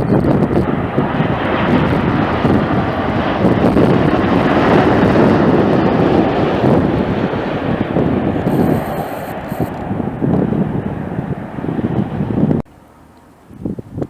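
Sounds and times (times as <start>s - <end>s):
wind buffeting microphone: 0.0s - 12.7s, 13.4s - 14.0s
jet engines rumbling: 0.4s - 12.5s.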